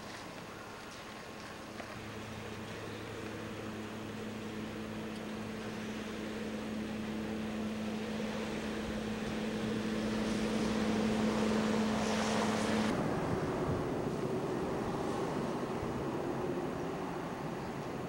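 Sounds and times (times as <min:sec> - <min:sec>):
train running past: 0:02.0 - 0:17.6
wind noise on microphone: 0:02.0 - 0:18.0.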